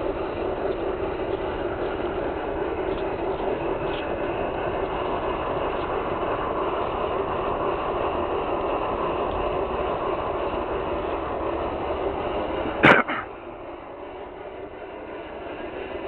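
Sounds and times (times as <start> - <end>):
model train wheels on rails: 0.0 - 16.0.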